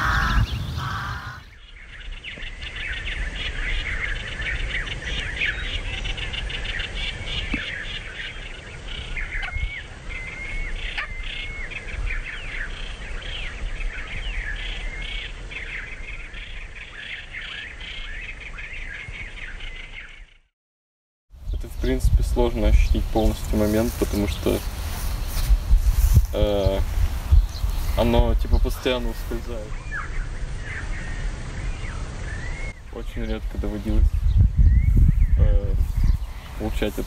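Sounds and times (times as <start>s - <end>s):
songbirds chirping and trilling: 0.0s - 20.5s, 21.3s - 37.0s.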